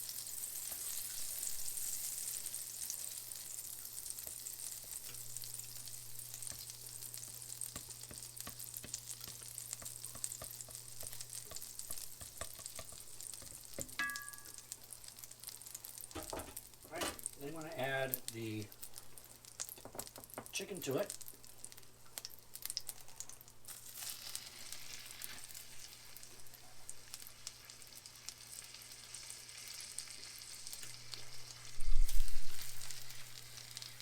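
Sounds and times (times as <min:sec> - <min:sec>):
oil and butter sizzling in a pan: 0:00.0 - 0:34.0.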